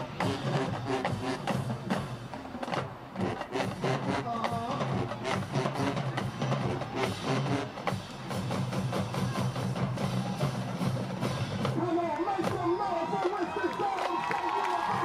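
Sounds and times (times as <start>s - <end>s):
drumline playing cadence: 0.0s - 15.0s.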